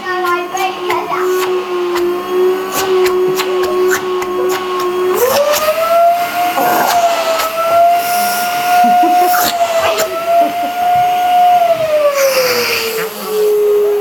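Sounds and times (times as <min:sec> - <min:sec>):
vacuum cleaner whine: 0:00.0 - 0:14.0.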